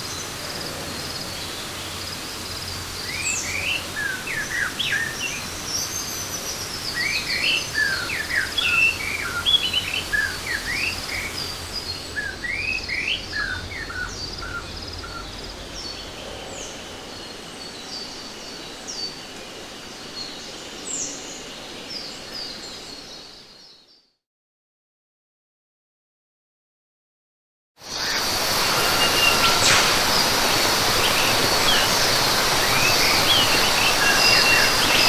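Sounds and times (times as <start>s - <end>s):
birds chirping: 0.0s - 23.8s, 27.9s - 35.0s
steady background hiss: 0.0s - 23.8s, 27.8s - 35.0s.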